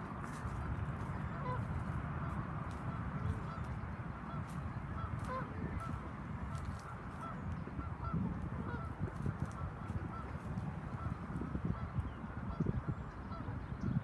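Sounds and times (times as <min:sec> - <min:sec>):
geese honking: 0:00.0 - 0:13.6
steady low rumble: 0:00.0 - 0:14.0.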